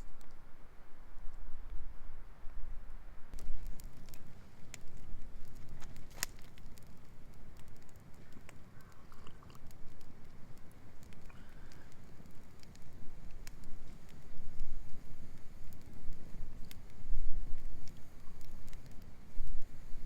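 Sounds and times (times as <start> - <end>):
campfire crackling and popping: 0.0 - 0.5, 3.3 - 20.0.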